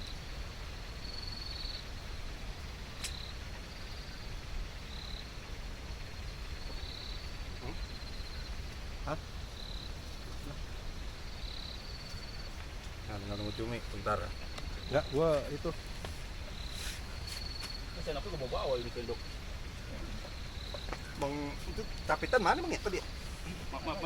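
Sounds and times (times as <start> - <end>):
insects chirping in trills: 0.0 - 24.0
steady low rumble: 0.0 - 24.0.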